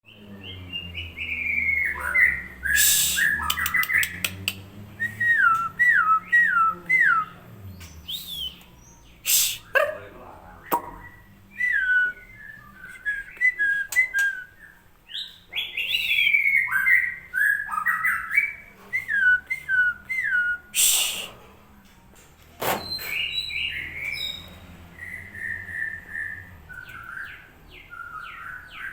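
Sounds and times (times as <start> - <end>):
bird singing whistled phrases: 0.5 - 4.4, 5.0 - 9.8, 10.7 - 21.3, 22.8 - 28.9.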